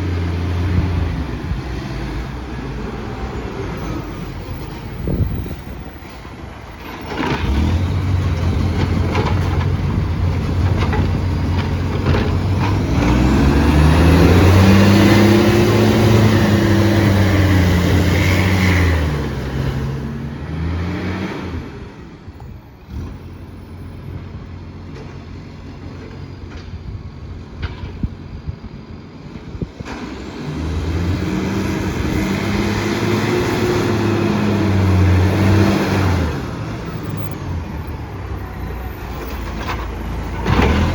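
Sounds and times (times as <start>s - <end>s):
truck diesel engine revving: 0.0s - 22.3s, 29.8s - 40.9s.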